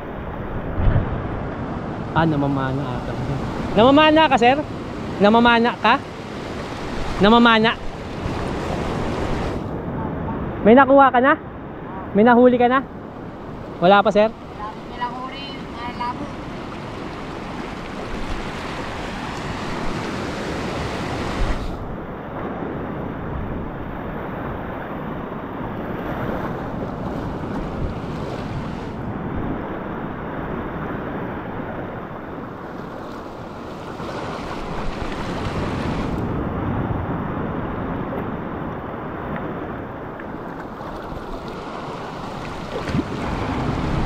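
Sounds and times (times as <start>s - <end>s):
ocean surf over rocks: 0.0s - 44.0s.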